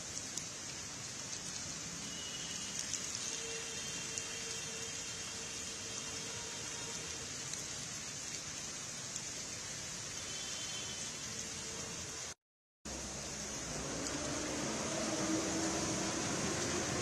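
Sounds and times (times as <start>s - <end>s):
heavy rain on a road: 0.0s - 17.0s.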